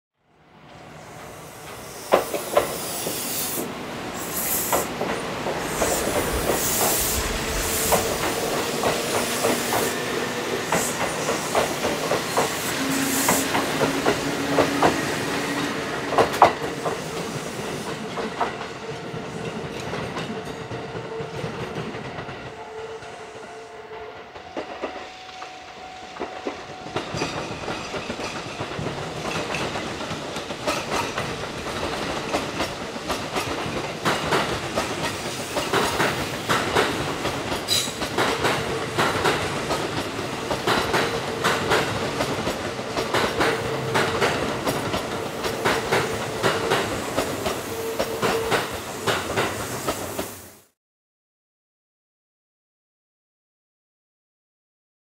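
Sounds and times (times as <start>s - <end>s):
electric train running on rails: 0.4s - 50.7s.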